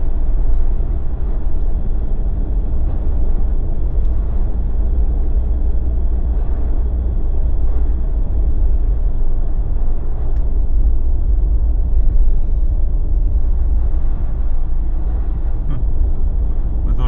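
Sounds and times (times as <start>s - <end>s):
engine and road noise: 0.0s - 17.0s.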